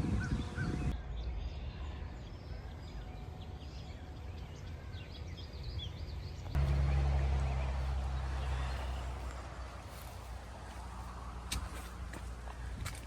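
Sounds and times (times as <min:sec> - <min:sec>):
low outdoor rumble: 0:00.0 - 0:13.0
small birds chirping: 0:00.0 - 0:13.0
steady low hum: 0:00.4 - 0:13.0.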